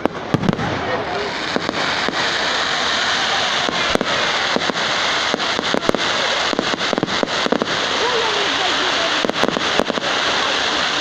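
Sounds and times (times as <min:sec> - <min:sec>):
fireworks bangs: 0:00.0 - 0:11.0
fireworks hiss: 0:00.0 - 0:11.0.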